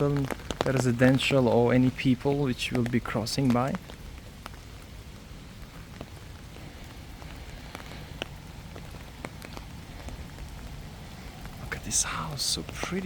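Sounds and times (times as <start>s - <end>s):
light rain hissing: 0.0s - 13.0s
raindrops ticking close by: 0.0s - 13.0s.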